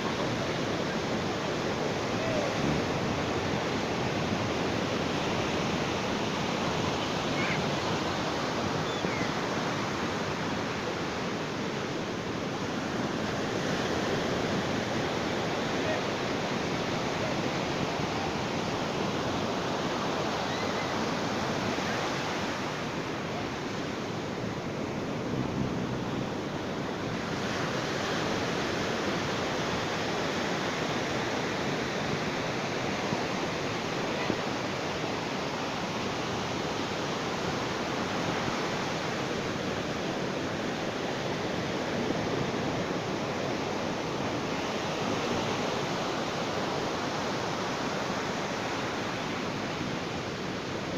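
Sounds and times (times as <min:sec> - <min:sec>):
sea waves washing on beach: 0:00.0 - 0:50.9.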